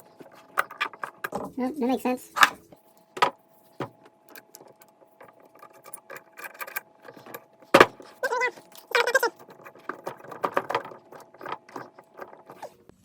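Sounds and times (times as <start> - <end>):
drill parts clicking and rattling: 0.0 - 1.6, 2.4 - 12.8.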